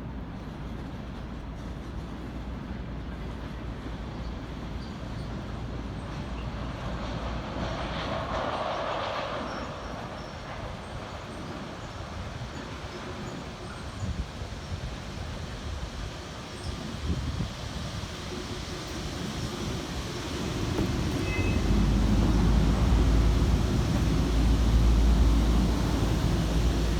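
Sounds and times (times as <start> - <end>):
train rumbling past: 0.0 - 26.9
wheel-on-rail noise: 3.1 - 26.9.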